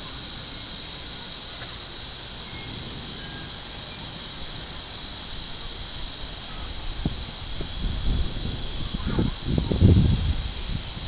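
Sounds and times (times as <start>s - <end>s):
crickets and insects chorus: 0.0s - 11.0s.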